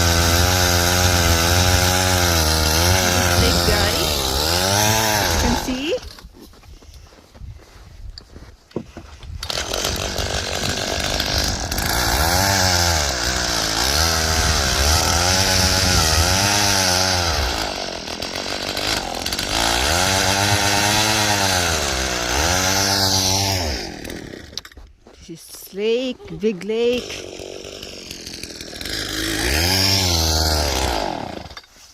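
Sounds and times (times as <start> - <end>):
small gasoline engine revving: 0.0 - 6.2, 9.4 - 24.6, 26.8 - 31.6.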